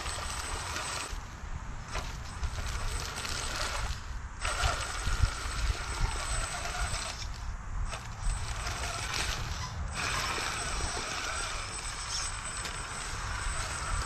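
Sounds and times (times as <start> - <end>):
rc car motor whining: 0.0 - 14.0.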